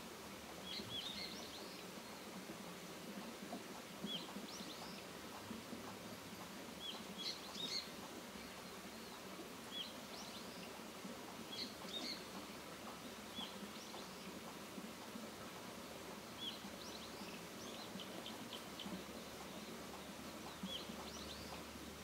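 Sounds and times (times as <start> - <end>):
steady background hiss: 0.0 - 22.0
small birds chirping: 0.6 - 2.3, 4.0 - 14.9, 15.8 - 22.0.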